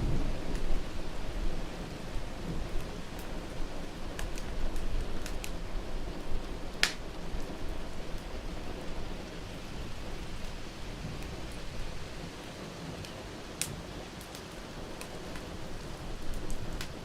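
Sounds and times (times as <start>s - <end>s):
rain rushing: 0.0s - 17.0s
wood fire crackling and popping: 0.4s - 17.0s.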